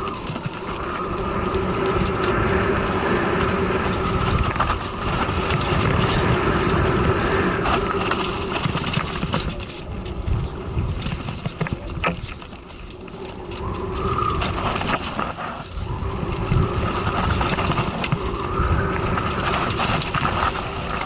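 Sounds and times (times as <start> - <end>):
bike rattling: 0.0 - 21.0
tyres rumbling over dirt and rocks: 0.0 - 21.0.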